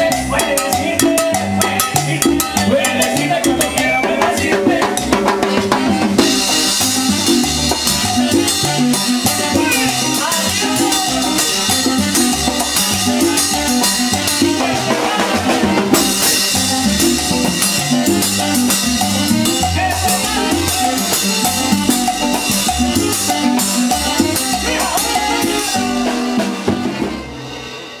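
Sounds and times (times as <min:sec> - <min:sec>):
drum kit and cymbals: 0:00.0 - 0:28.0
latin dance band playing: 0:00.0 - 0:28.0.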